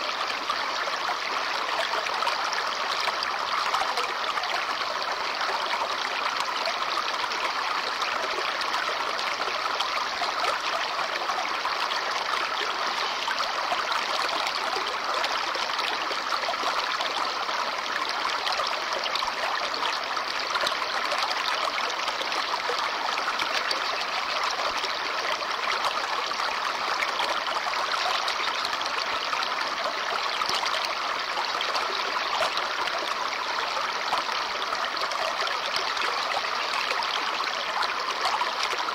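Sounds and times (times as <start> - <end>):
brook babbling over stones: 0.0 - 38.9.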